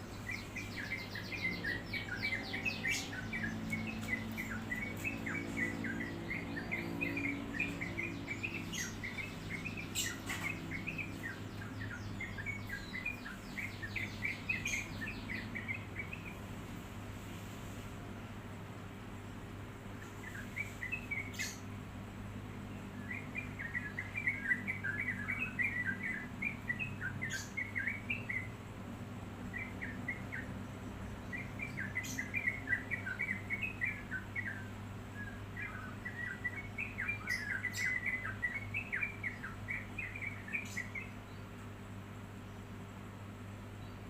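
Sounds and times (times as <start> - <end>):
bulbul singing: 0.0 - 16.5, 20.0 - 21.8, 22.8 - 28.7, 29.4 - 41.6.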